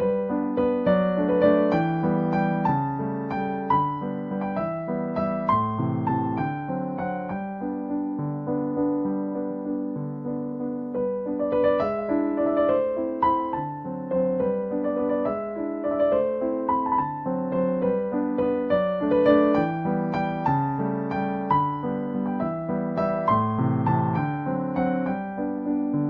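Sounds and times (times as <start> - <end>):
electric piano melody: 0.0 - 26.0.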